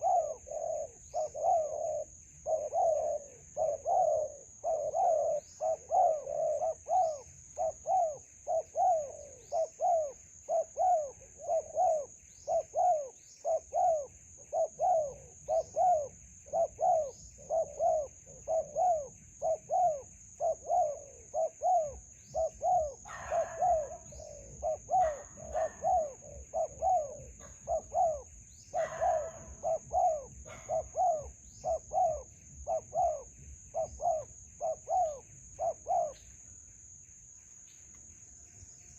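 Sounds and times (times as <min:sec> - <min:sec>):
doves cooing: 0:00.0 - 0:36.4
small birds chirping: 0:00.0 - 0:38.9.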